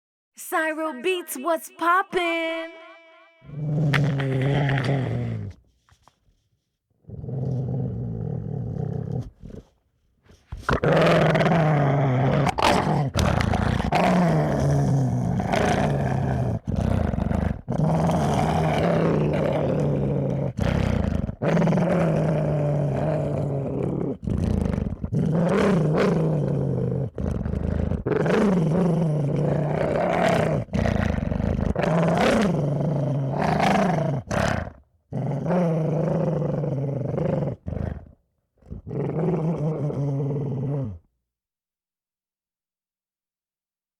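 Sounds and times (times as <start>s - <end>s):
dog growling: 3.5s - 5.7s, 7.0s - 9.8s, 10.5s - 41.1s.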